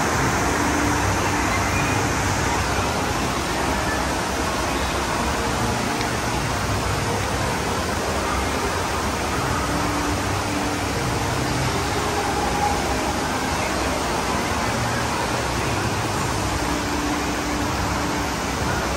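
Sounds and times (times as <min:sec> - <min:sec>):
water rushing over surf simulator: 0:00.0 - 0:18.9.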